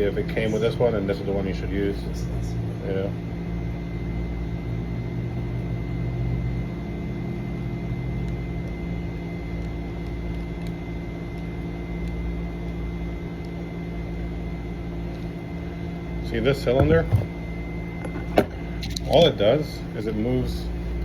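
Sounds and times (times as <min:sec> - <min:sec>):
machine hum with high whine: 0:00.0 - 0:21.0.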